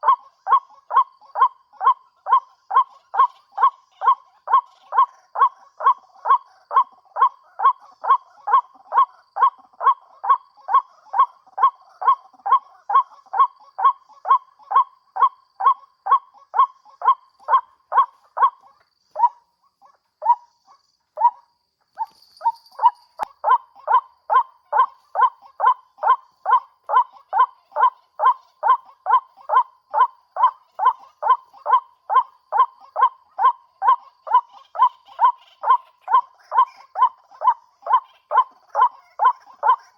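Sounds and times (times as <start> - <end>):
bird croaking calls: 0.0 - 19.4, 20.2 - 39.9.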